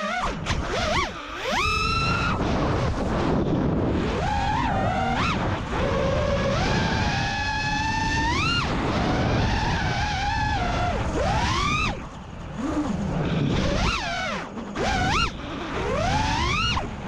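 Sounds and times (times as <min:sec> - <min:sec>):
quadcopter motors whining: 0:00.0 - 0:17.0
wind rush: 0:00.3 - 0:17.0.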